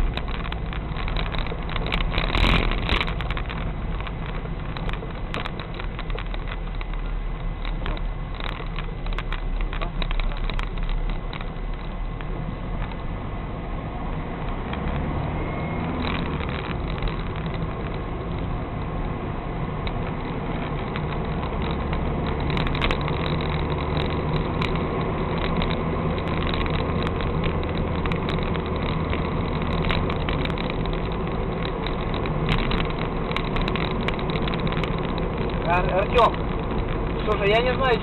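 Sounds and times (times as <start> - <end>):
sharp clicks and knocks: 0.0 - 13.1, 14.1 - 15.2, 15.8 - 38.0.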